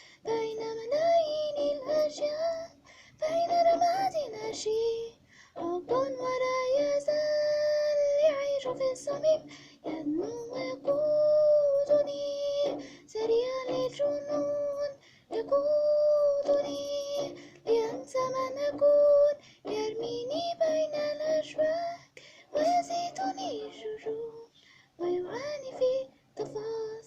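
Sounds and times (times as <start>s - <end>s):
girl singing long held notes: 0.0s - 27.0s.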